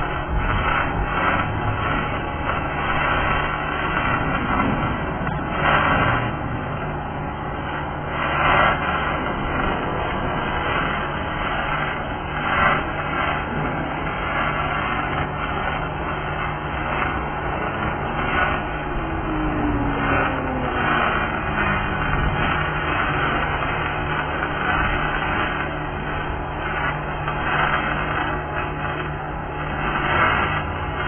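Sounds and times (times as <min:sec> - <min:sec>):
welding arc crackling: 0:00.0 - 0:31.0.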